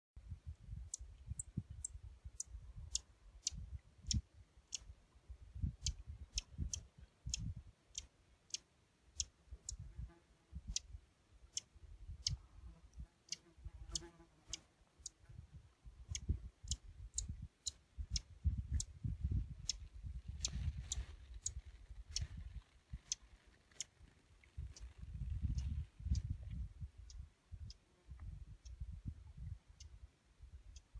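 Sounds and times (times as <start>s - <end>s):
wind rumble on microphone: 0.2s - 7.7s, 9.5s - 11.0s, 11.8s - 14.0s, 15.2s - 30.9s.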